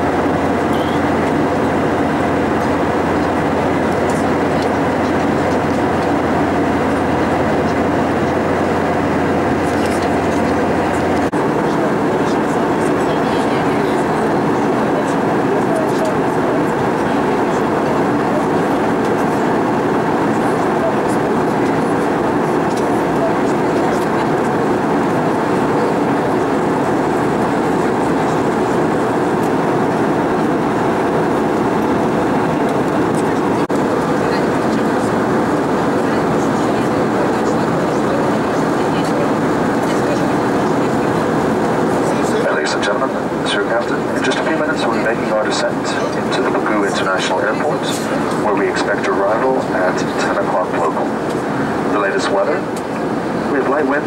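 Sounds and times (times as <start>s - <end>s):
airflow rush in aircraft cabin: 0.0s - 54.0s
jet engine drone: 0.0s - 54.0s.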